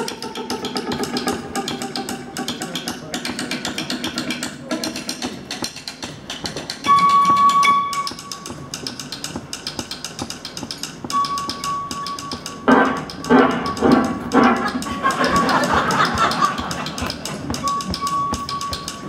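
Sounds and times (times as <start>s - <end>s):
ticking percussion rhythm: 0.0s - 19.0s.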